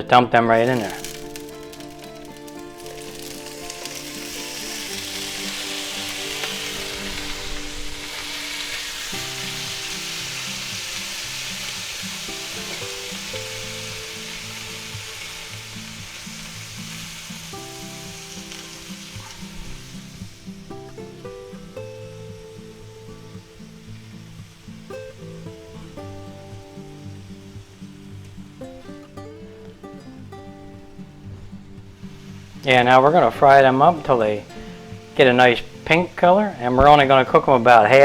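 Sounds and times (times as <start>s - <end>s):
background music: 0.0s - 38.0s
shrimp sizzling in hot oil: 0.6s - 38.0s.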